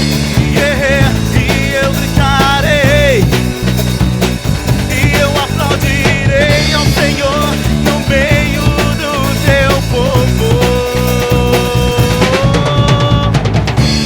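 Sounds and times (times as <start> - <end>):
rock gospel song with band: 0.0 - 14.0.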